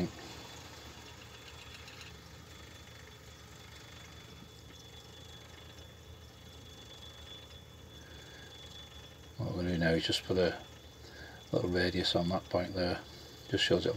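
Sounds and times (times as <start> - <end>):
faint machine hum: 0.0 - 13.9
high-pitched whine: 0.0 - 13.9.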